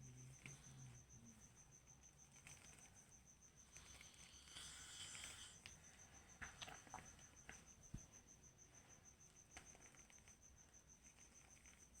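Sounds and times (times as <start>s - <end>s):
faint cricket chirping: 0.0s - 12.0s.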